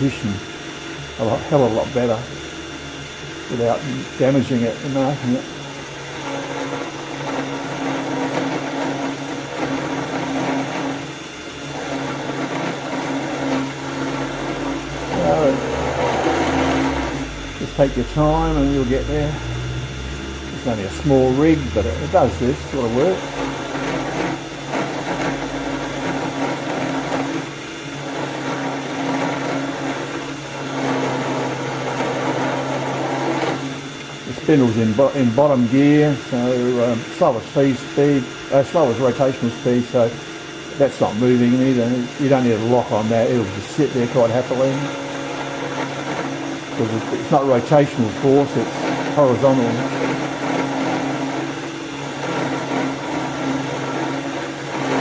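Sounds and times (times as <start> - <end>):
end mill cutting metal: 0.0 - 55.0
motor hum: 0.0 - 55.0.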